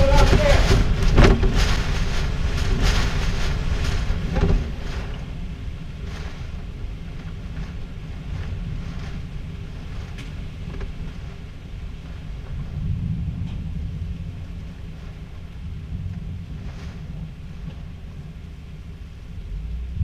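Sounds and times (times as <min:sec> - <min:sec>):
rain ticking on glass: 0:00.0 - 0:20.0
storm wind and rain rumble: 0:00.0 - 0:20.0.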